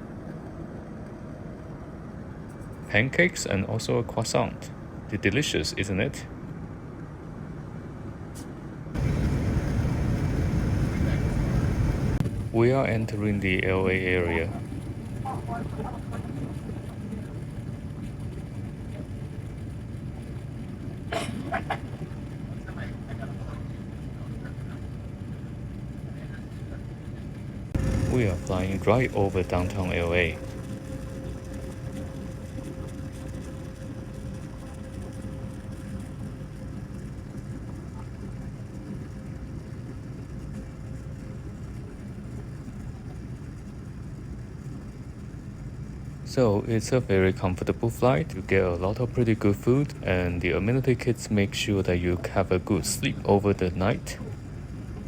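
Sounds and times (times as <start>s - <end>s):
airplane cabin engine drone: 0.0s - 55.0s
faint steady hum: 0.0s - 55.0s.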